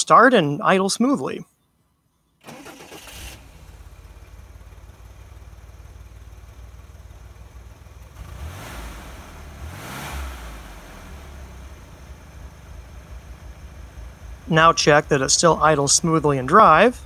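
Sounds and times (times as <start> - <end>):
car engine idling: 2.4 - 17.0.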